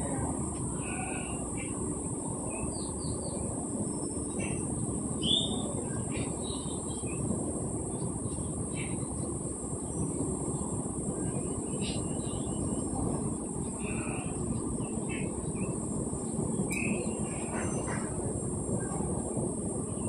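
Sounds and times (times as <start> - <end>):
low rumbling background noise: 0.0 - 20.0
birds chirping: 0.2 - 9.2, 9.8 - 18.2.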